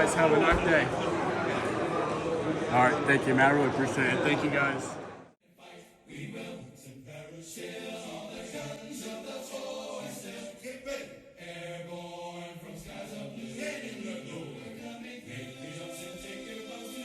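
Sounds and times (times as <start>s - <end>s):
choir-like voices chanting: 0.0s - 17.0s.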